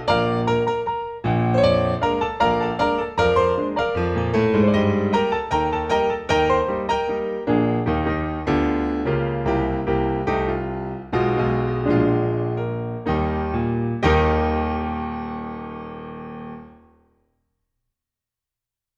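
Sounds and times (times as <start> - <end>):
piano notes and chords: 0.0 - 17.2.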